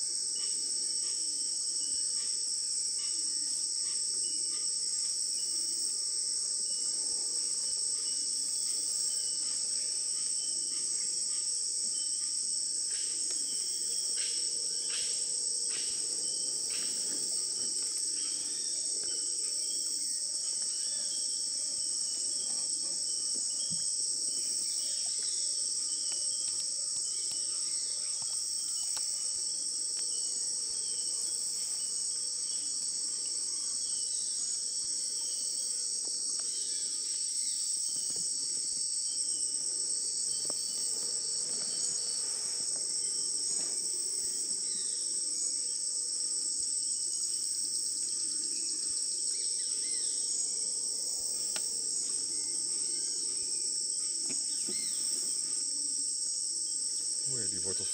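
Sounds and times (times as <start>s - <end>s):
insects chorus: 0.0s - 57.9s.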